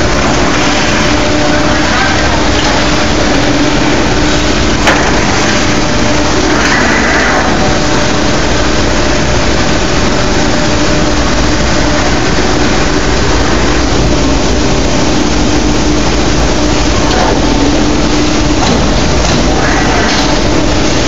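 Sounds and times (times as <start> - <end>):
punch press machine humming: 0.0 - 21.0.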